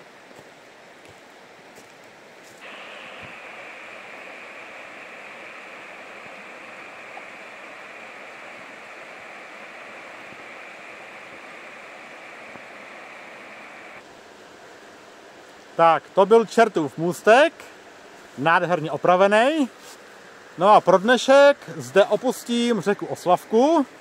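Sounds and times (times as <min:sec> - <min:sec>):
river water rushing: 0:02.6 - 0:24.0.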